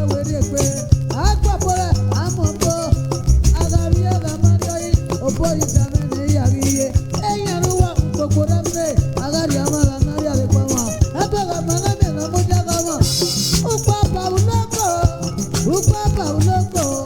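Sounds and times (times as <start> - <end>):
steady bass line: 0.0 - 16.7
melodic guitar lines: 0.0 - 17.0
shaker and percussion rhythm: 0.0 - 17.0.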